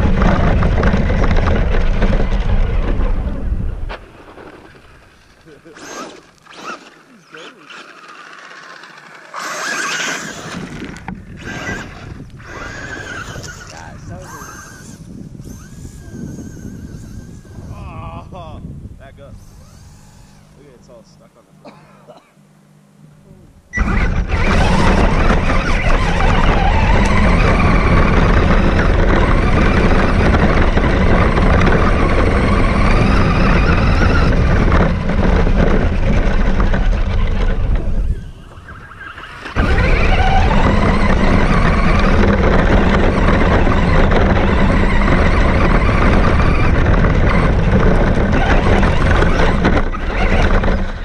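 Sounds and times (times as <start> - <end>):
loud dense rumble: 0.0 - 4.1, 10.4 - 21.4, 23.2 - 51.0
radio-controlled car motor whine: 4.6 - 18.3, 19.2 - 21.0, 23.7 - 51.0.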